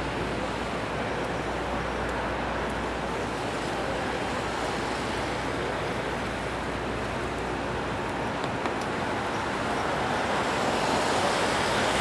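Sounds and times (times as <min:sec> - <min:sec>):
rain hiss: 0:00.0 - 0:12.0
traffic noise: 0:00.0 - 0:12.0.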